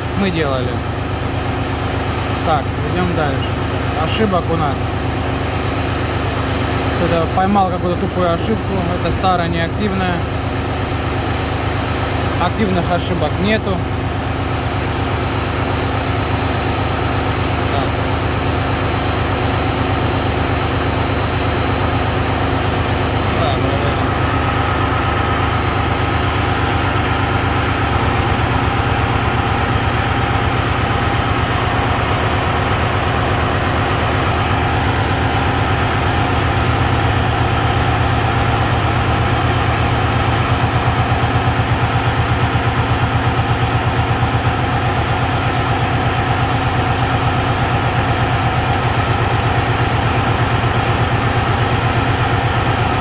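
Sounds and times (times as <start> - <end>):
truck diesel engine idling: 0.0 - 53.0.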